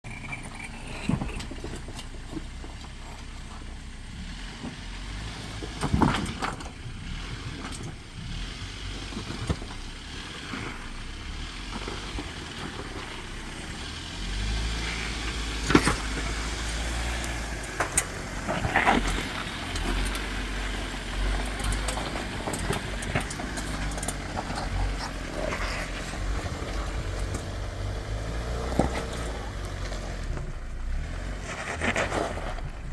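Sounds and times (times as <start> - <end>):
car engine rumbling: 0.0 - 32.9.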